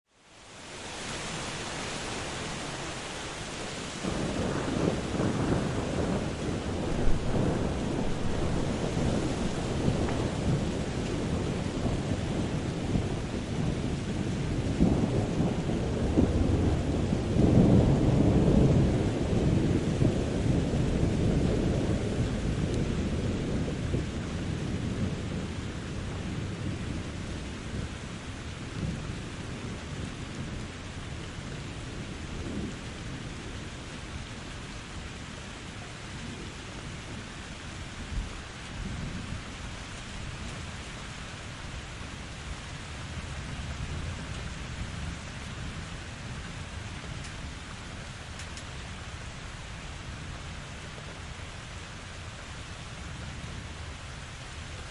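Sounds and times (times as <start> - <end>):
steady rain falling: 0.0 - 54.9
thunder rumbling: 0.9 - 54.9.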